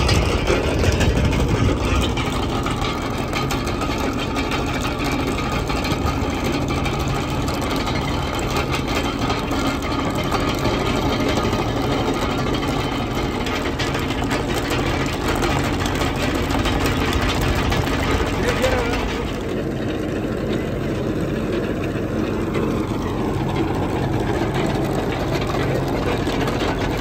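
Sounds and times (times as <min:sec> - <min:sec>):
tractor engine running: 0:00.0 - 0:27.0
trenching machine clatter: 0:00.0 - 0:27.0.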